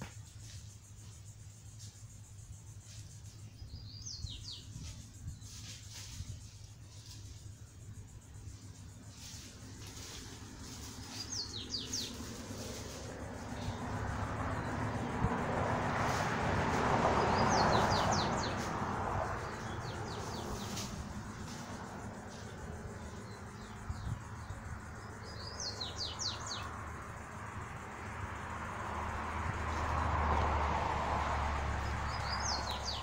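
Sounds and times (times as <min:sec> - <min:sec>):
outdoor noise haze: 0:00.0 - 0:33.0
songbird chirping: 0:00.0 - 0:33.0.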